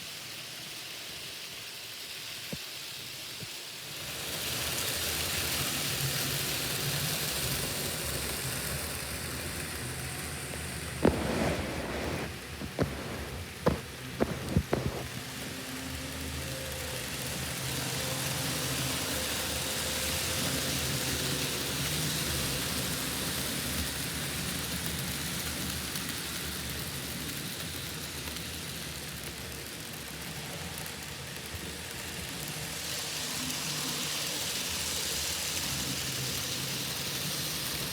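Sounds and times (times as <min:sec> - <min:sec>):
model train wheels hissing on track: 0:00.0 - 0:37.9.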